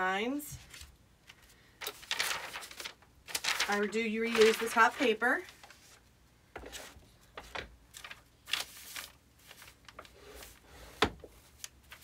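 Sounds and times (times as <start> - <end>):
paper rustling: 0.6 - 12.0.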